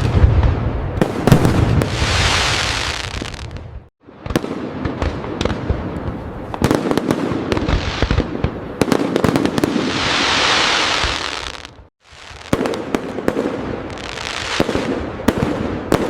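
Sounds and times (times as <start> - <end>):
fireworks bangs and cracks: 0.0 - 16.0
fireworks crackling: 0.0 - 16.0.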